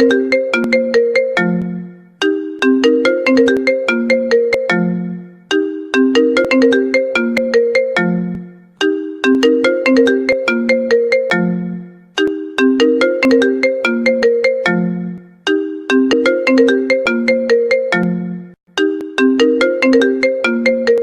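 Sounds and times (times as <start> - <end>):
ringtone tune of quick notes: 0.0 - 21.0.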